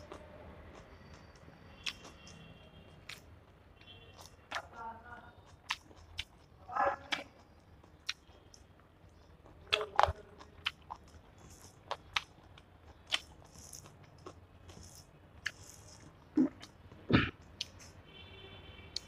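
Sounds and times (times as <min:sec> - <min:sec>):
crunchy bites: 0:00.0 - 0:03.3, 0:05.4 - 0:18.0
person chewing with wet clicks: 0:00.0 - 0:18.0.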